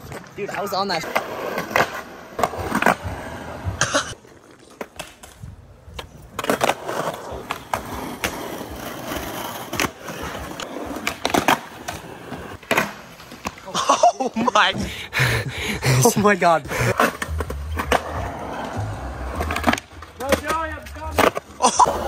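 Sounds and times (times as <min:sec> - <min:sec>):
skateboards clacking and landing: 0:00.0 - 0:15.3, 0:15.9 - 0:22.0
skateboard wheels rolling on concrete: 0:00.0 - 0:22.0.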